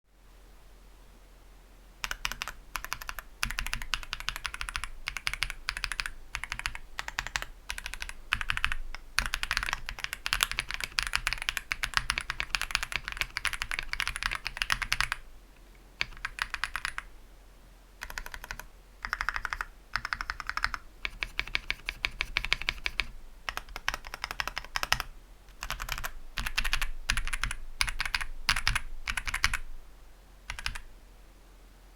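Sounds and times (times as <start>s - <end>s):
mechanical keyboard typing: 2.0s - 15.2s, 16.0s - 17.1s, 18.0s - 29.7s, 30.5s - 30.9s.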